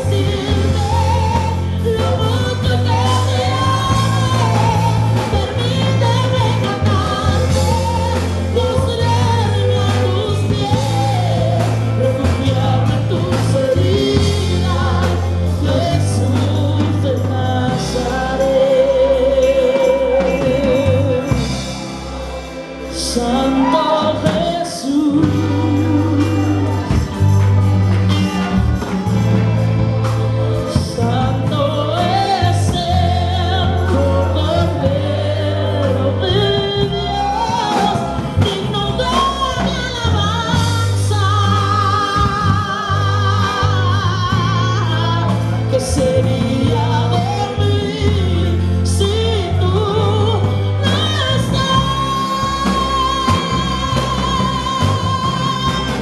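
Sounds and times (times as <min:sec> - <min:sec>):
woman singing with vibrato: 0:00.0 - 0:22.2, 0:22.8 - 0:29.8, 0:30.4 - 0:56.0
congas: 0:00.0 - 0:56.0
deep bass line: 0:00.0 - 0:56.0
drum kit: 0:00.0 - 0:56.0
electric guitar: 0:00.0 - 0:56.0.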